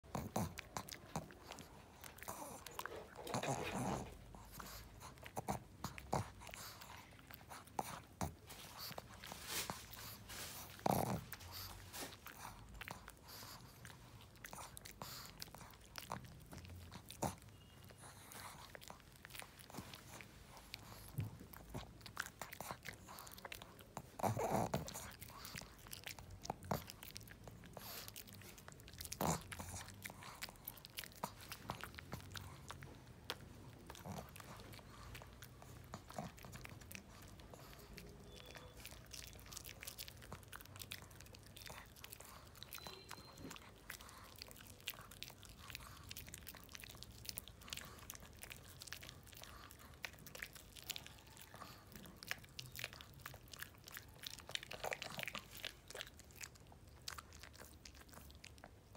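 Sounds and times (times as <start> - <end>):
dog chewing hard biscuit: 0.0 - 58.9.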